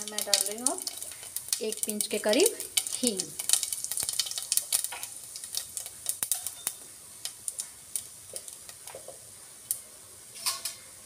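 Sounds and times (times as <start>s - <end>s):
seeds popping in hot oil: 0.0s - 10.9s
faint oil sizzle: 0.0s - 11.0s.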